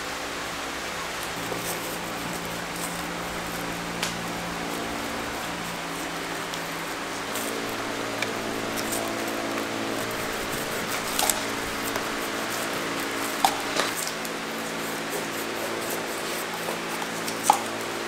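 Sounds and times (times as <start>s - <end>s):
mechanical hum: 0.0s - 18.0s
paintbrush squishing wet resin: 1.3s - 18.0s.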